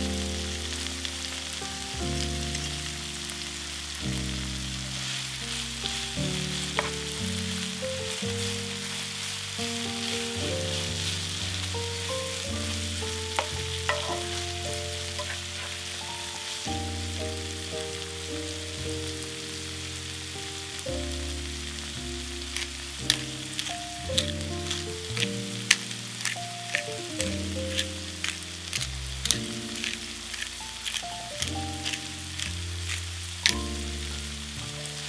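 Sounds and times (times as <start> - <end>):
background music: 0.0 - 35.0
food sizzling in oil: 0.0 - 35.0.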